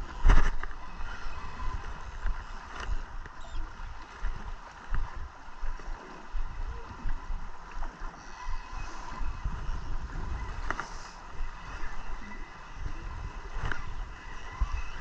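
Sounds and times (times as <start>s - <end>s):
waves lapping against boat hull: 0.0s - 15.0s
wind buffeting microphone: 0.0s - 15.0s.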